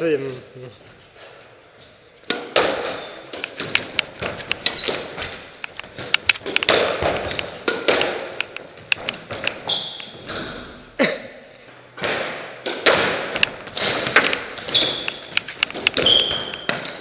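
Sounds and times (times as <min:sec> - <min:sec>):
shoes squeaking on wooden floor: 0:00.3 - 0:11.0, 0:11.9 - 0:17.0
squash ball hitting rackets and walls: 0:02.2 - 0:10.8, 0:11.9 - 0:17.0.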